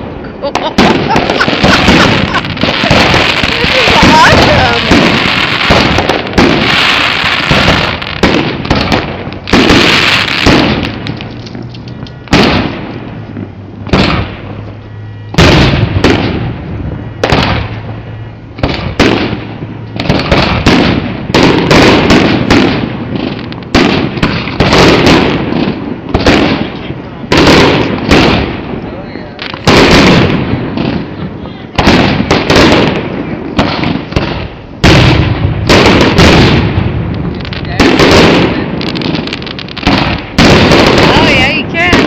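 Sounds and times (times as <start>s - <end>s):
fireworks bursting and crackling: 0.0s - 42.0s.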